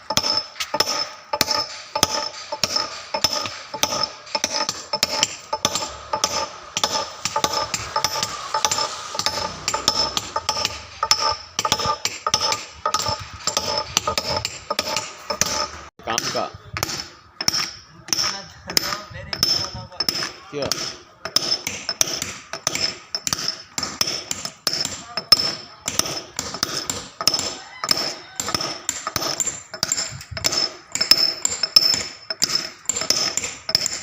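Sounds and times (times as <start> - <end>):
hammer striking chisel on stone: 0.0 - 34.0.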